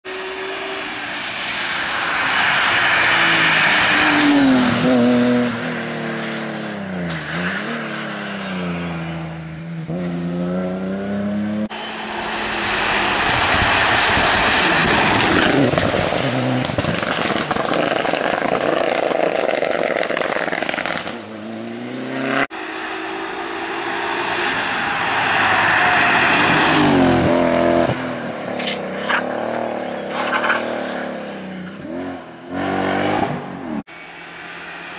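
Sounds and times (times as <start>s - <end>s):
rally cars revving past: 0.3s - 33.9s.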